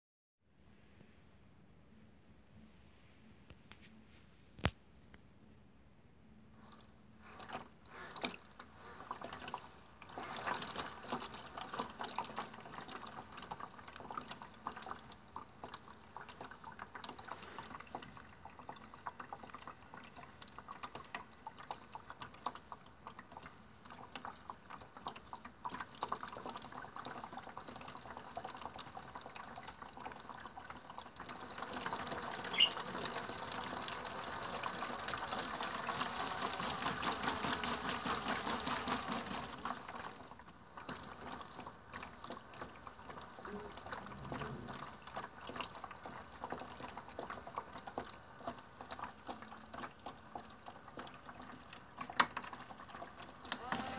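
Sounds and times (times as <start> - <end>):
water sloshing in washing machine drum: 6.7 - 53.9.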